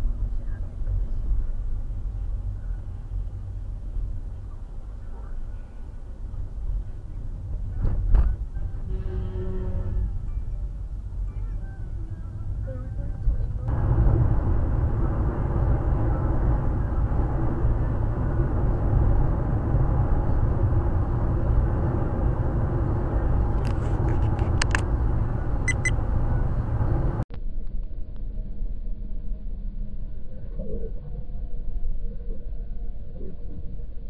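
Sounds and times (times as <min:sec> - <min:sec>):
car driving road noise: 0:00.0 - 0:27.3.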